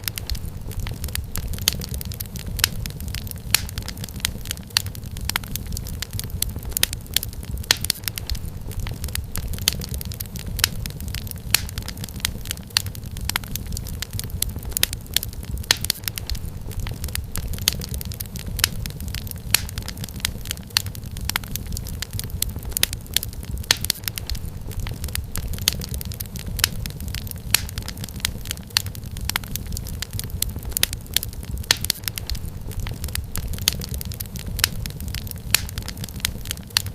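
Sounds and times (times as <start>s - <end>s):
fire flame rumble: 0.0s - 36.9s
firewood crackling and popping: 0.0s - 36.9s.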